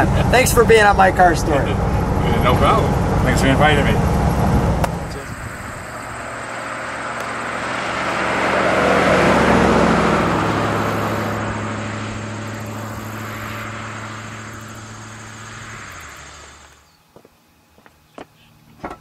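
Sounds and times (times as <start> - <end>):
car driving past: 0.0 - 16.9.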